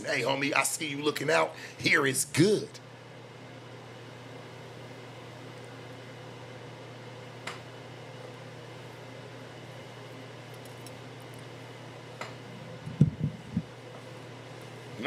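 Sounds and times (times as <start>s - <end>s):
fan hum and hiss: 0.0s - 15.0s.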